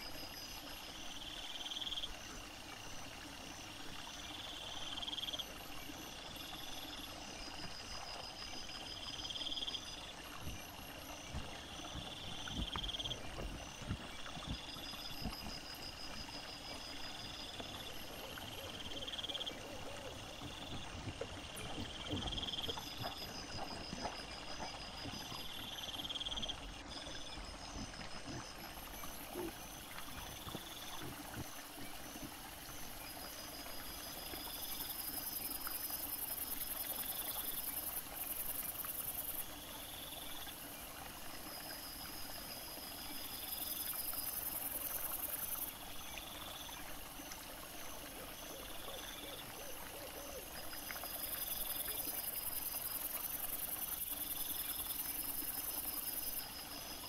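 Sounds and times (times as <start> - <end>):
night insects chirping: 0.0 - 57.0.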